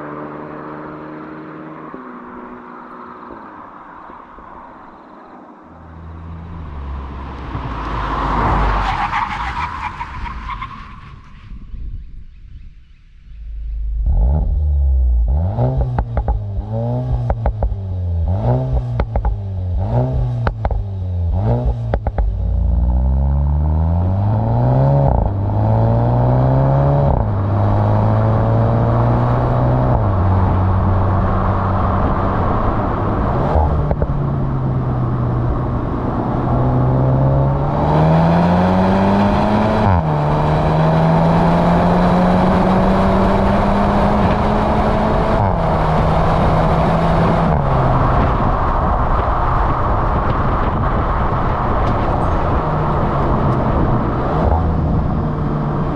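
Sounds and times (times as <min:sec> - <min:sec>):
car engine revving and accelerating: 0:00.0 - 0:03.8, 0:13.6 - 0:55.9.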